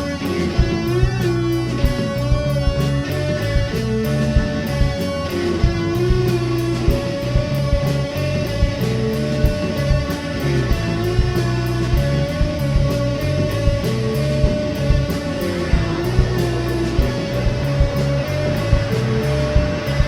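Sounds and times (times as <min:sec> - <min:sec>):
bass: 0:00.0 - 0:20.0
drum beat: 0:00.0 - 0:20.0
electric guitar: 0:00.0 - 0:20.0.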